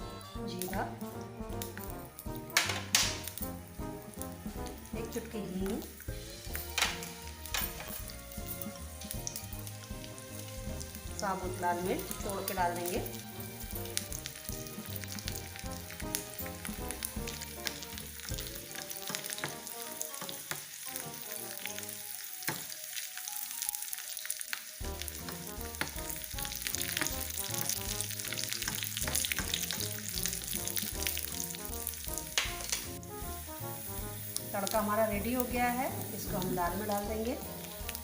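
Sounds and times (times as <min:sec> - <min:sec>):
background music: 0:00.0 - 0:38.0
spices sizzling in hot oil: 0:00.0 - 0:38.0.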